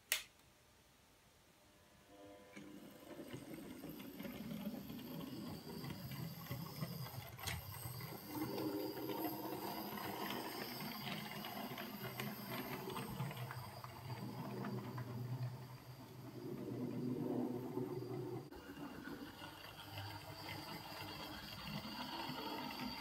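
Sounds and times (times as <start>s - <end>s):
model train motor hum: 2.6s - 23.0s
wheels clicking on rails: 2.6s - 23.0s.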